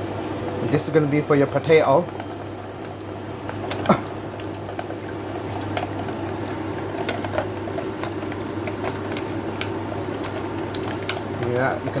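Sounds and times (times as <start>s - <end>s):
food sizzling in a pan: 2.2s - 11.9s.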